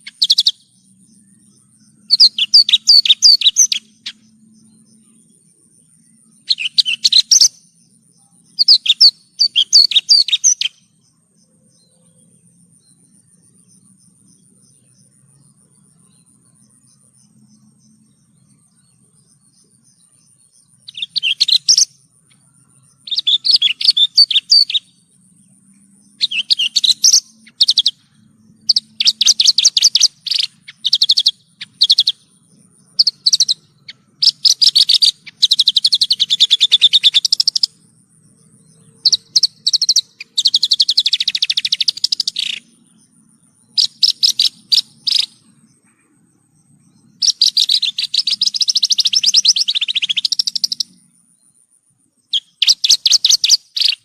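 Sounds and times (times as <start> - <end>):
bush lark singing: 0.0 - 54.0.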